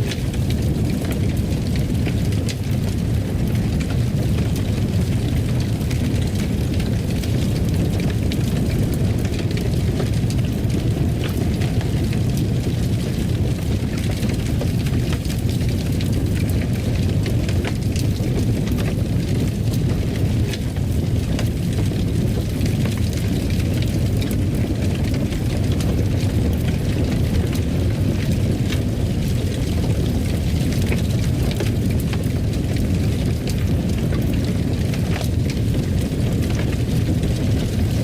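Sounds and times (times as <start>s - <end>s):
fire crackling and rumbling: 0.0s - 38.0s.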